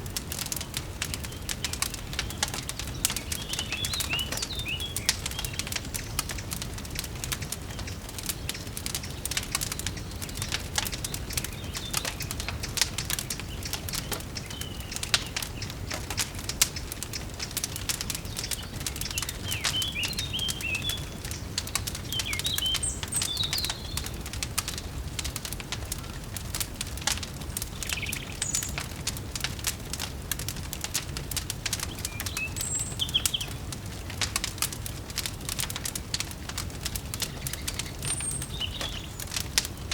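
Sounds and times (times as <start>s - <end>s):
small birds chirping: 0.0s - 39.9s
wood fire crackling: 0.0s - 39.9s.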